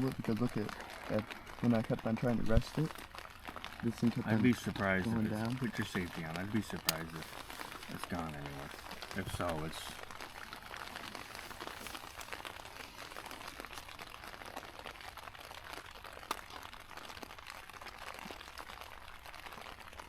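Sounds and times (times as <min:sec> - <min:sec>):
rain drops ticking: 0:00.0 - 0:20.0.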